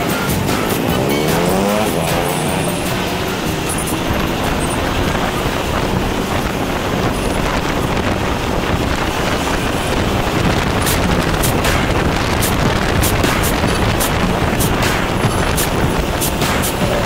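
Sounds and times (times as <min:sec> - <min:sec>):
motorcycle in traffic: 0:00.0 - 0:17.0
wind rush on microphone: 0:00.0 - 0:17.0.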